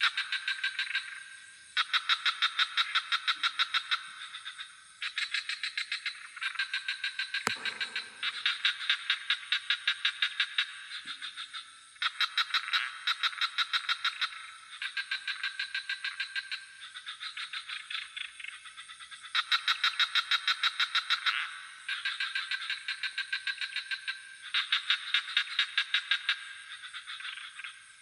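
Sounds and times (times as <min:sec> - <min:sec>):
frogs croaking in chorus: 0:00.0 - 0:28.0.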